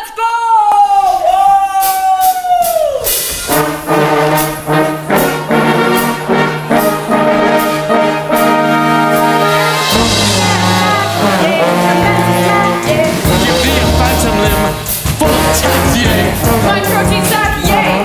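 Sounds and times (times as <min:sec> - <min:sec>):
rap backing music with brass: 0:03.1 - 0:18.0.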